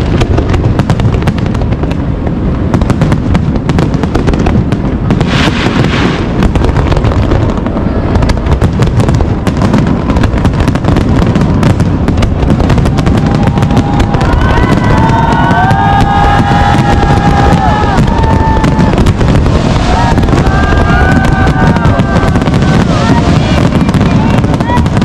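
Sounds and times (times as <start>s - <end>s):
deep booming rumble of fireworks: 0.0s - 25.0s
fireworks bangs and crackles: 0.0s - 25.0s.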